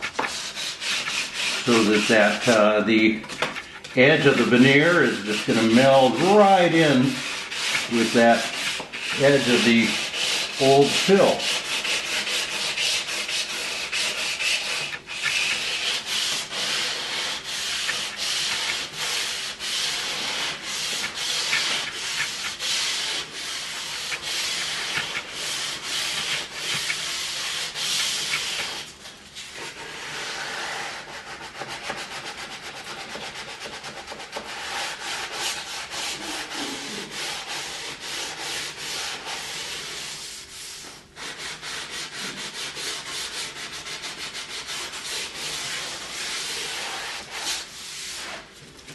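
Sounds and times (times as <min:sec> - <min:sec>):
sandpaper rubbing wood: 0:00.0 - 0:48.5.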